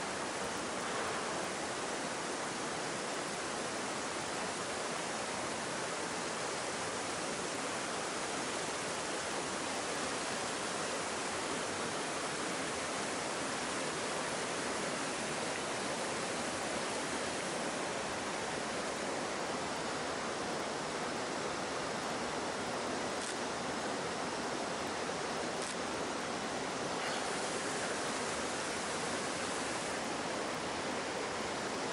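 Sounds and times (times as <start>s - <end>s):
stream rushing over rocks: 0.0s - 31.9s.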